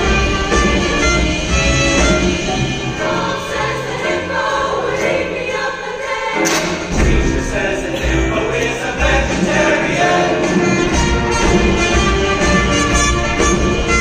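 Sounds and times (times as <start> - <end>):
choir singing with band: 0.0 - 14.0.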